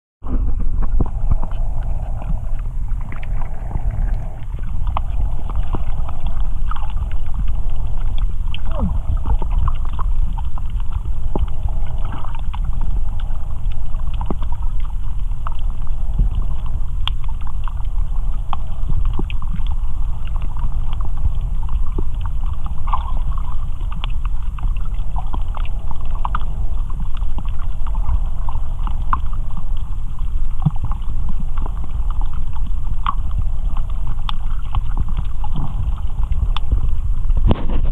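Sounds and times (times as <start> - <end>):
underwater rumble of moving water: 0.2 - 37.9.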